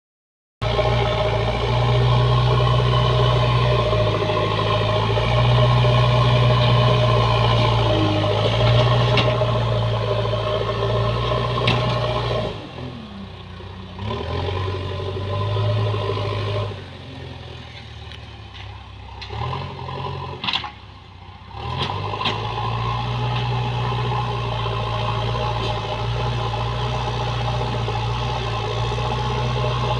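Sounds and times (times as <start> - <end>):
diesel engine running: 0.6 - 29.9.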